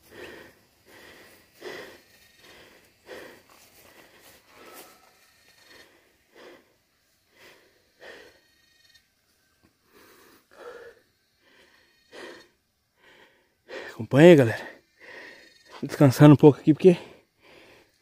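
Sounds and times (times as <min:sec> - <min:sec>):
person breathing hard: 0:00.0 - 0:08.6, 0:09.7 - 0:15.5, 0:17.0 - 0:18.0.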